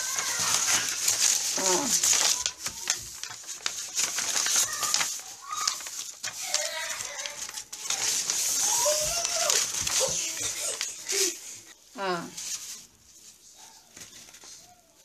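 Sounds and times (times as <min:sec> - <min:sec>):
paper crackles: 0:00.0 - 0:15.0.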